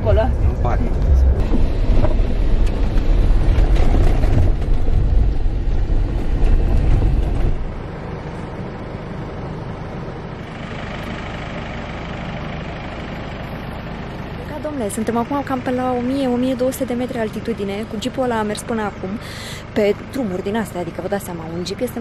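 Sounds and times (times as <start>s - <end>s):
jeep engine rumbling: 0.0s - 22.0s.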